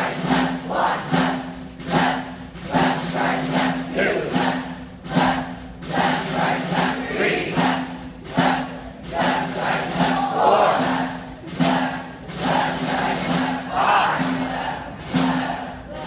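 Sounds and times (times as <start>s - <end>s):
group chanting marching cadence: 0.0s - 16.0s
sharp percussive hits: 0.0s - 16.0s.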